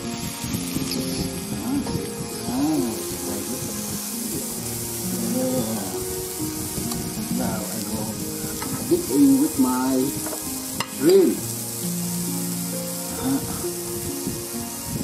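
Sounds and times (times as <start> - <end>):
background music: 0.0 - 15.0
shrimp sizzling on grill: 0.0 - 15.0.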